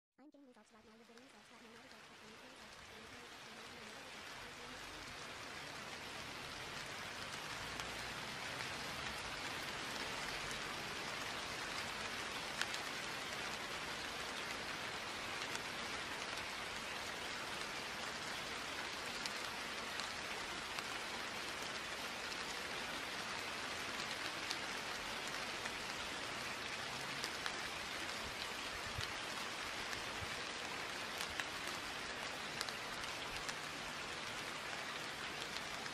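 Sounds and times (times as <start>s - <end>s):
steady rain: 0.4s - 35.9s.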